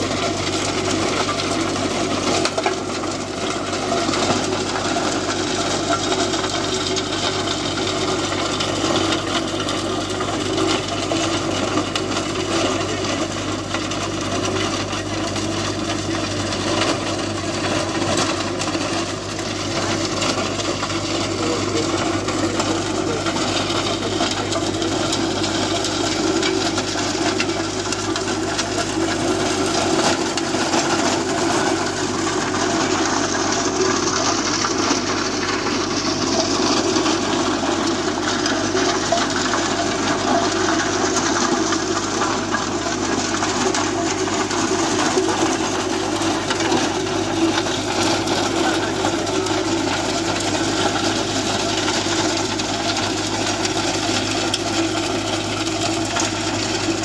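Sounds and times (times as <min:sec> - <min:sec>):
rotavator blades churning soil: 0:00.0 - 0:57.0
tractor engine running under load: 0:00.0 - 0:57.0.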